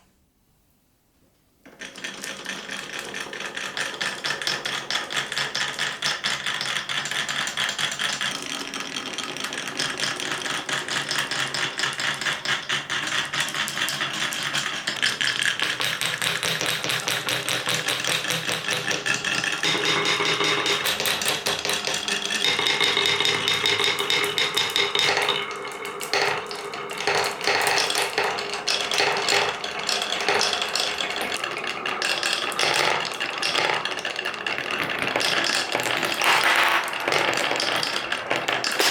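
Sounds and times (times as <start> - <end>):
marbles rattling down wooden track: 1.8 - 38.9.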